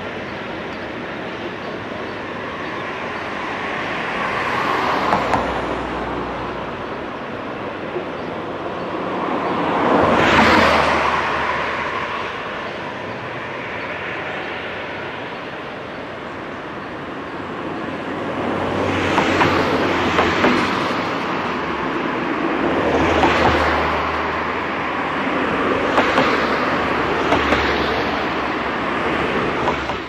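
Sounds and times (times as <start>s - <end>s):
steady rushing noise: 0.0s - 30.0s
vehicles passing by: 0.0s - 30.0s.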